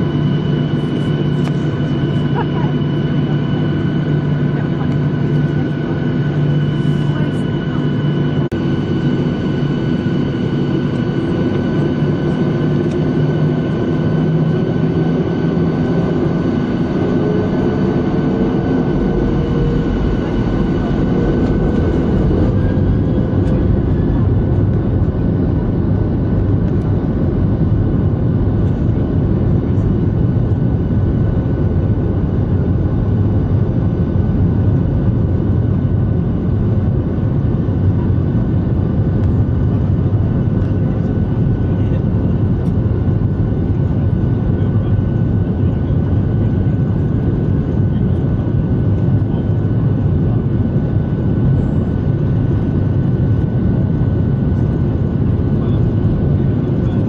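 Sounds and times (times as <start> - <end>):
faint engine whine: 0.0 - 57.0
jet engines idling drone: 0.0 - 57.0.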